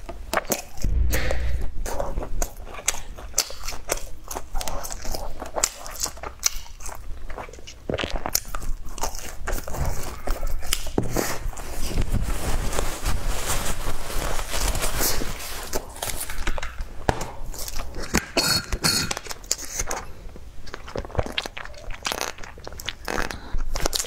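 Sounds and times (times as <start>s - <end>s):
crunchy chewing of fried food: 1.9s - 12.1s, 14.4s - 24.0s.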